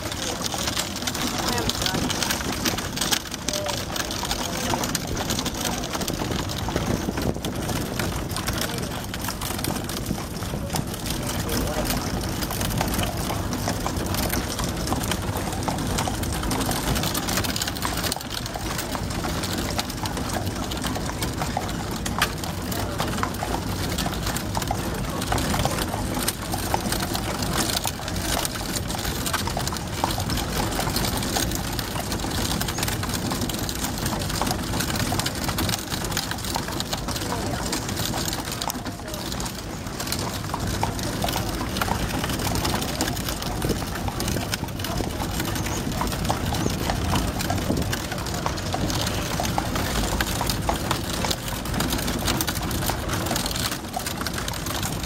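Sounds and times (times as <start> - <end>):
horse hooves clip-clopping on road: 0.0 - 55.0.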